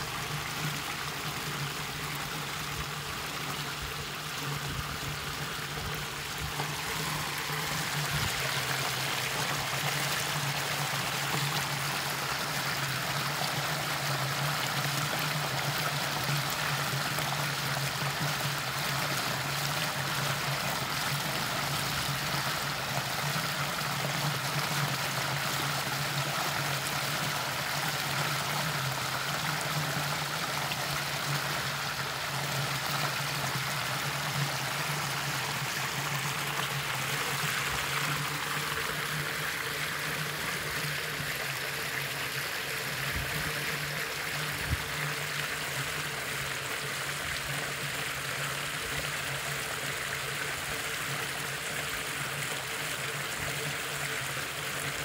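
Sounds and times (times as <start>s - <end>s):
floodwater pouring into drain: 0.0s - 55.0s.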